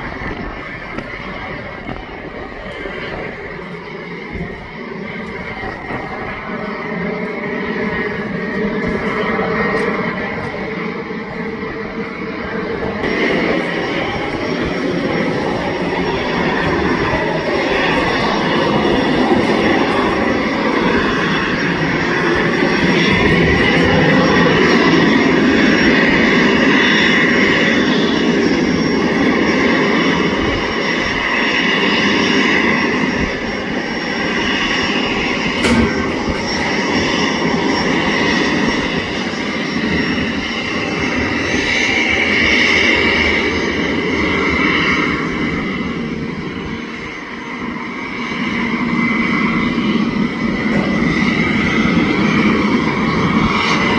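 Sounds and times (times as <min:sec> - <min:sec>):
jet engines whining: 0:00.0 - 0:53.9.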